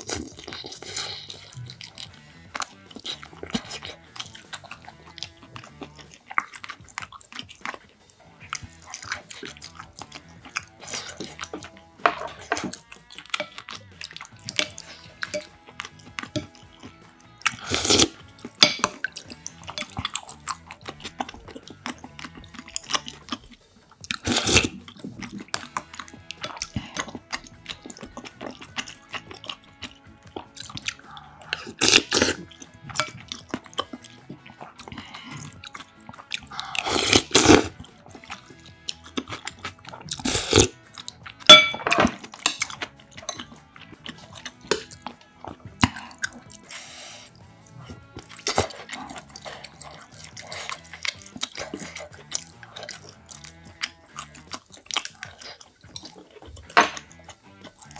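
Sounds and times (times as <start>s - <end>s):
chewing: 0.0s - 57.9s
slurping broth from a spoon: 0.0s - 57.9s.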